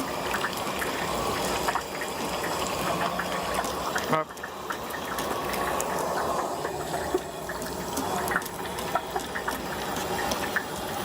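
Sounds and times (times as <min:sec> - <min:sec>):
food deep-frying in hot oil: 0:00.0 - 0:11.0.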